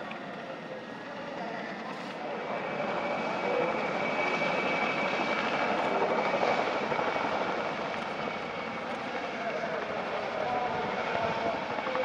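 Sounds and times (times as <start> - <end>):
helicopter rotor noise: 0.0 - 12.0
helicopter turbine whine: 0.0 - 12.0.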